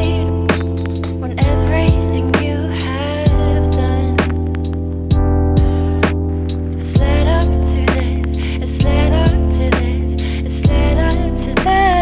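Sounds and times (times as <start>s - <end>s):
lo-fi music with soft beat: 0.0s - 12.0s.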